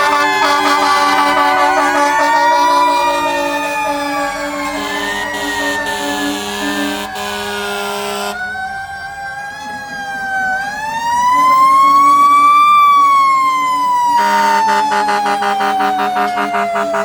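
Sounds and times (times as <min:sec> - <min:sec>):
fire truck siren wailing: 0:00.0 - 0:17.0.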